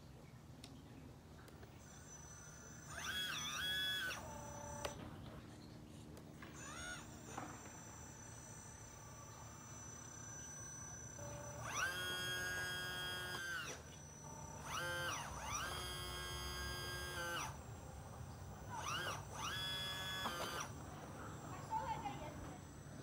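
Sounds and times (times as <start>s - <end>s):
model electric motor whining: 1.6s - 23.0s.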